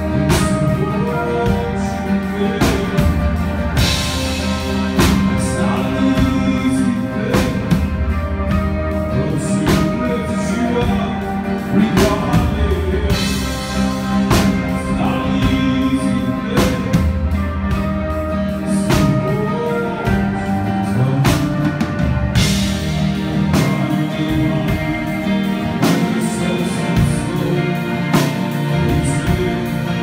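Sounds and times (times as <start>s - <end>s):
man singing: 0.0s - 30.0s.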